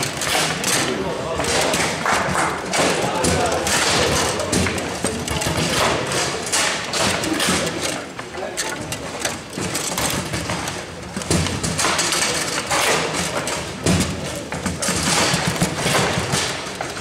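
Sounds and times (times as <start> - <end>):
steady background clatter: 0.0 - 17.0.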